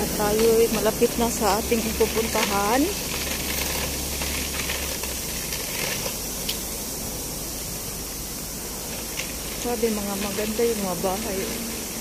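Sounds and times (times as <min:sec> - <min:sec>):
street ambience hiss: 0:00.0 - 0:12.0.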